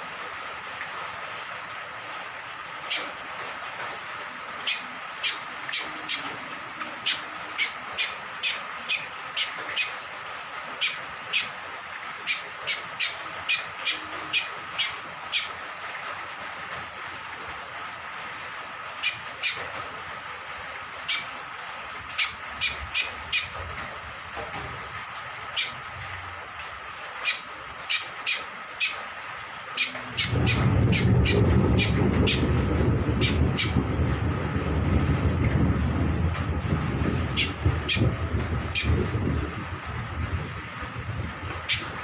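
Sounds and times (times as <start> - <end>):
rain hiss: 0.0 - 42.0.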